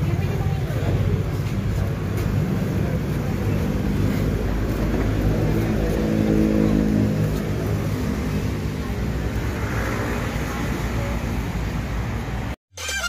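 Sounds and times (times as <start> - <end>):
engine hum: 0.0 - 12.6
road traffic rumble: 0.0 - 13.0.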